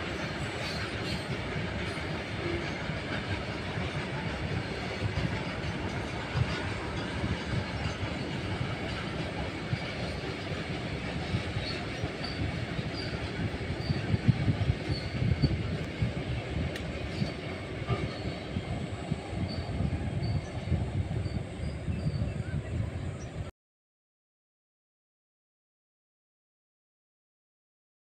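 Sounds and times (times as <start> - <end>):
train wheels rumbling on rail: 0.0 - 23.5.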